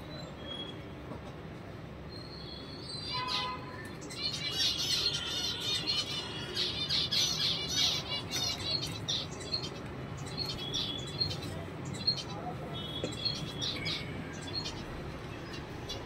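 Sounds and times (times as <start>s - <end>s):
small birds chirping: 2.0s - 16.0s.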